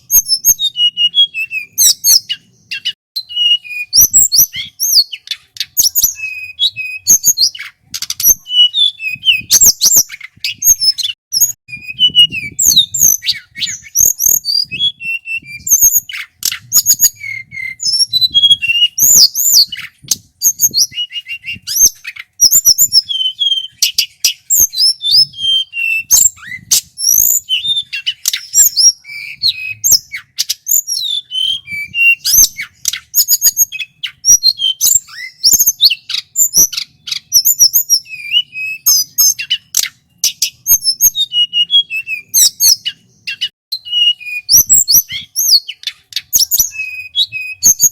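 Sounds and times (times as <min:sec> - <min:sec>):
bird singing whistles and trills: 0:00.0 - 0:47.9.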